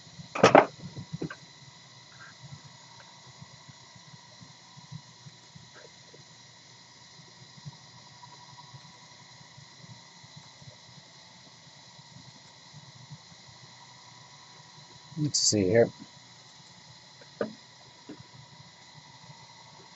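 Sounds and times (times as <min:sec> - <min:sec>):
faint thin whining tones: 0:00.0 - 0:19.9
steady hiss: 0:00.0 - 0:19.9.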